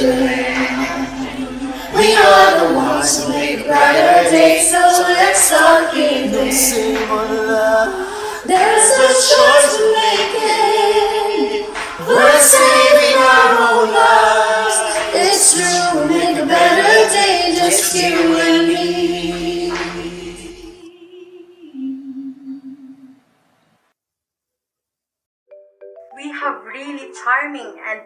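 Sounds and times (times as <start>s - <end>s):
choir singing in harmony: 0.0s - 23.1s.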